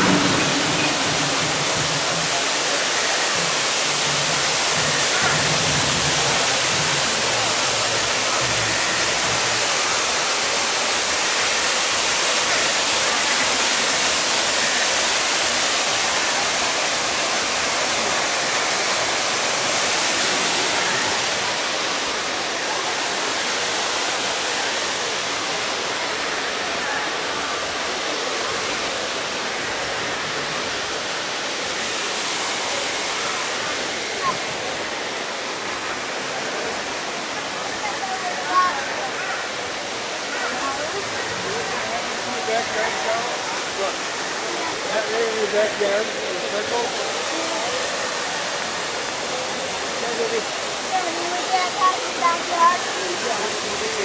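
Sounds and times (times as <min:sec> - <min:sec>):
waterfall splashing on rocks: 0:00.0 - 0:54.0.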